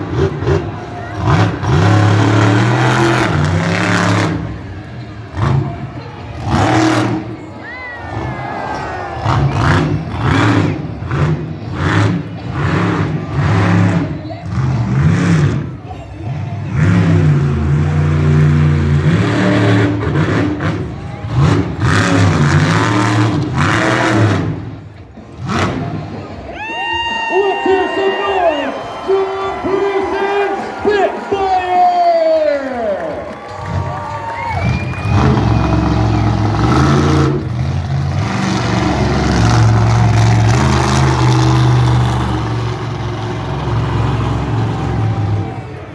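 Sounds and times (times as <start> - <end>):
truck engine revving: 0.0 - 26.6, 32.6 - 45.9.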